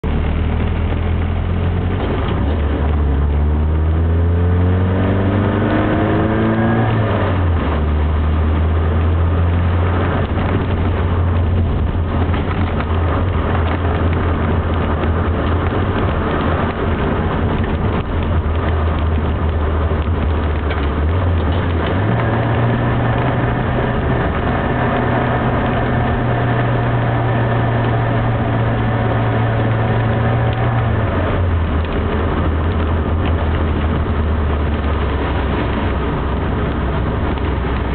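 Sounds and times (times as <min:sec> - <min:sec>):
car engine accelerating: 0:00.0 - 0:37.9
road and tyre noise: 0:00.0 - 0:37.9.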